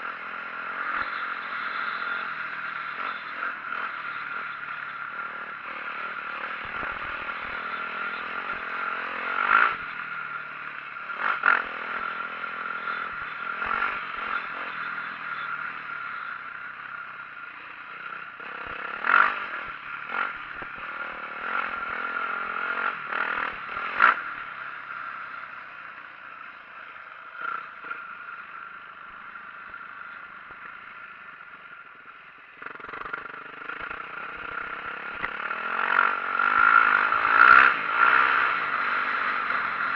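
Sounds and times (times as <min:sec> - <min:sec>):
dirt bike engine revving: 0:00.0 - 0:31.6, 0:32.6 - 0:39.9.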